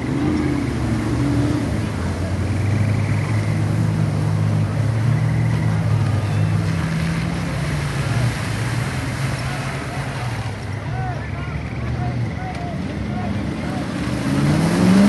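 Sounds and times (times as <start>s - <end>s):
off-road vehicle engine passing: 0.0s - 15.0s
other truck engines: 0.0s - 15.0s.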